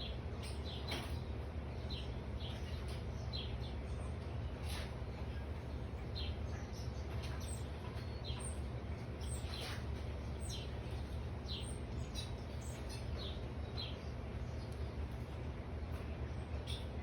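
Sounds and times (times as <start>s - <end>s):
birds chirping: 0.0s - 17.0s
low background rumble: 0.0s - 17.0s.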